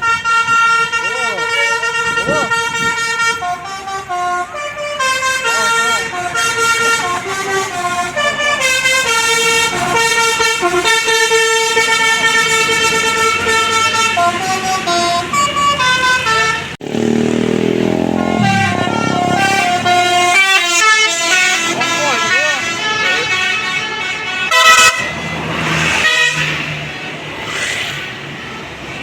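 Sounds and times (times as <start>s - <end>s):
musical bus air horn melody: 0.0s - 16.8s, 17.9s - 27.3s
low bus horn tone: 0.0s - 27.3s.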